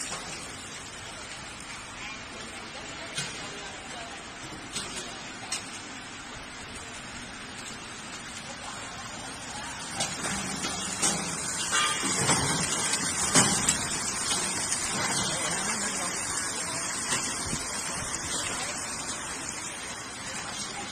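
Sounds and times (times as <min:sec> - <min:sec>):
chips frying in hot oil: 0:00.0 - 0:20.9.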